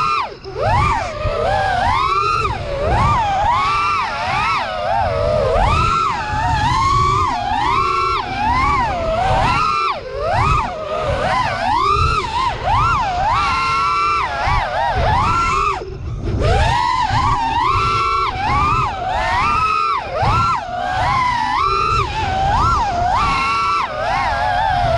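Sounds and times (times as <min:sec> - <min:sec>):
drone motors whining: 0:00.0 - 0:24.9
low wind rumble: 0:00.0 - 0:24.9.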